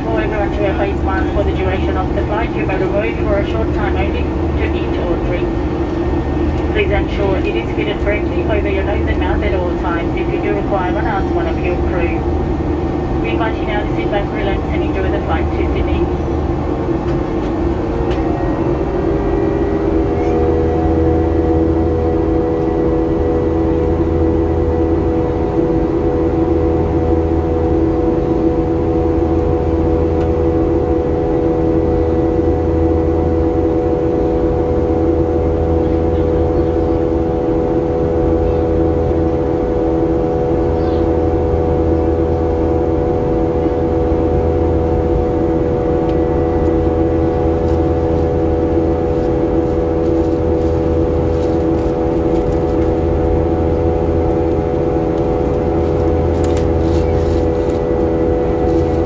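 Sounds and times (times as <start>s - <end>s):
airplane cabin turbofan rush: 0.0s - 59.0s.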